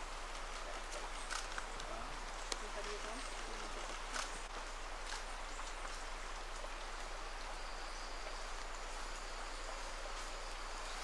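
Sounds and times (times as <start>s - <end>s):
rushing water hiss: 0.0s - 11.0s.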